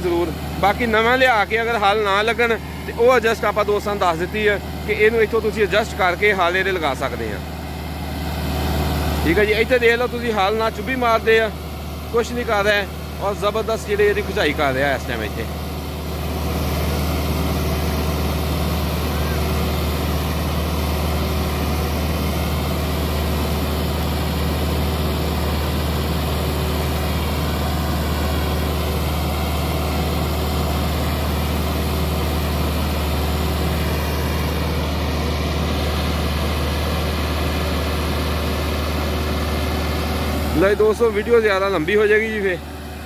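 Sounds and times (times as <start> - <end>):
tractor engine running under load: 0.0 - 43.0.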